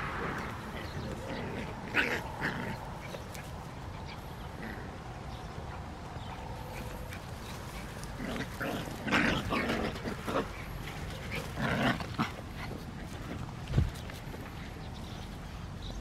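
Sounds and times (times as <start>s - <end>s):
puppies barking and yapping: 0.0s - 14.8s.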